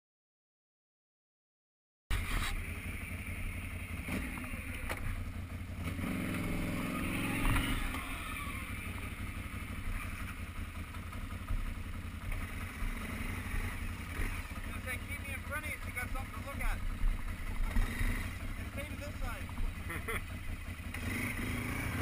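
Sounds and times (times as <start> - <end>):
atv engine running: 2.1 - 22.0.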